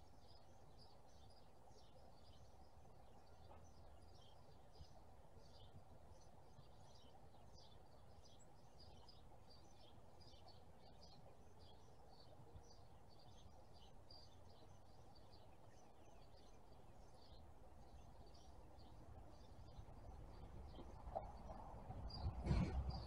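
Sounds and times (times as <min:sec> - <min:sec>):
faint bird chirping: 0:00.0 - 0:23.0.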